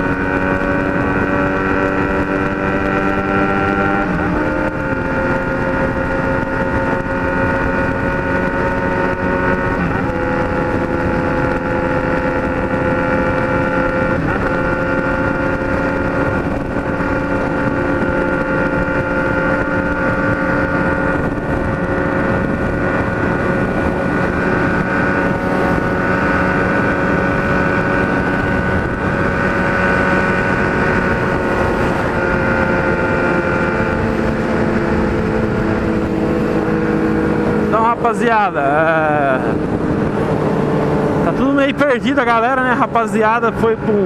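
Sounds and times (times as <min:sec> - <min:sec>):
motorcycle engine cruising: 0:00.0 - 0:44.0
wind rushing: 0:00.0 - 0:44.0.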